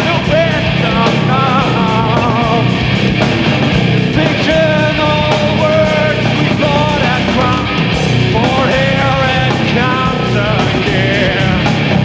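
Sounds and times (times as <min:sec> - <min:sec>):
person singing: 0:00.0 - 0:02.8, 0:04.1 - 0:11.8
punk rock band playing: 0:00.0 - 0:12.0.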